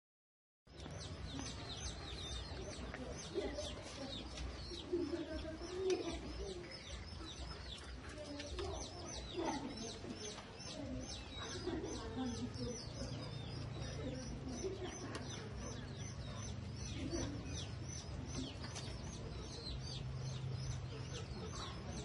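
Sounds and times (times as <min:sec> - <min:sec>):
small birds chirping: 0:00.7 - 0:22.0
doves cooing: 0:00.8 - 0:22.0.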